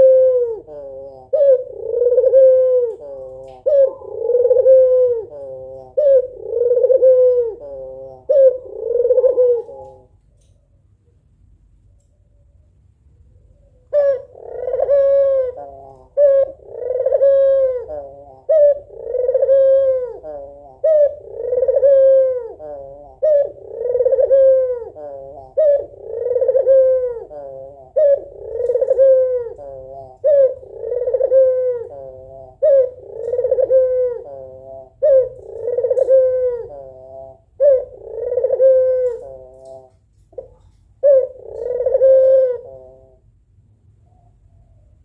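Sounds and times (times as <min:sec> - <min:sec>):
dove cooing: 0:00.0 - 0:10.2, 0:13.4 - 0:43.3.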